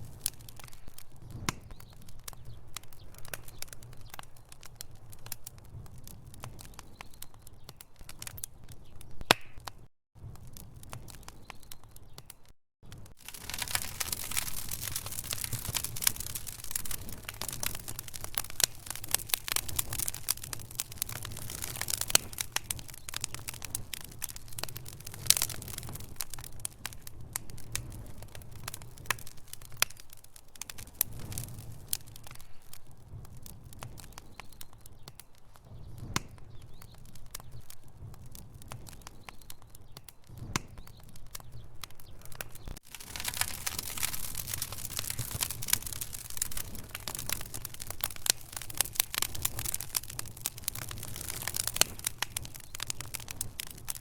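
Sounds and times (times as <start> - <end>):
logs crackling and popping: 0.0 - 54.0
low rumble of flame: 0.0 - 54.0.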